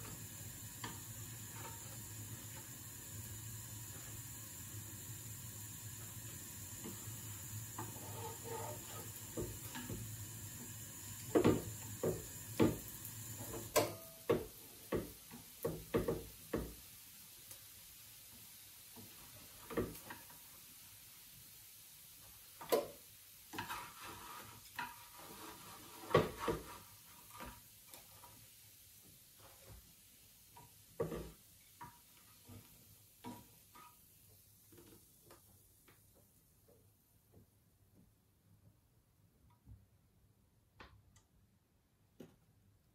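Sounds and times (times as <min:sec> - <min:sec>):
steady hiss: 0:00.0 - 0:37.6.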